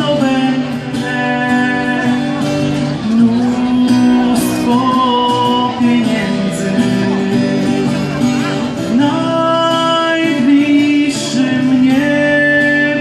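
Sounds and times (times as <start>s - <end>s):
live music with long held notes: 0.0s - 13.0s.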